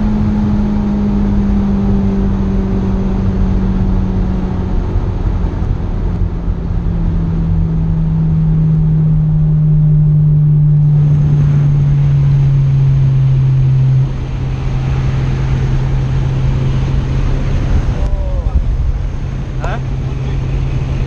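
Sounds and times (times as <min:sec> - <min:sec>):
car engine and exhaust droning: 0:00.0 - 0:21.0.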